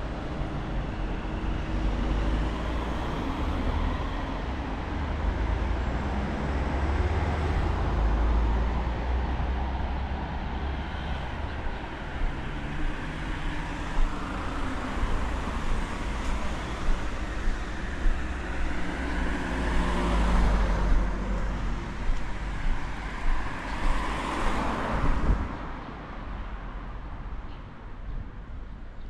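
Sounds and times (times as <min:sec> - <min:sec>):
passing cars rumbling: 0:00.0 - 0:28.3.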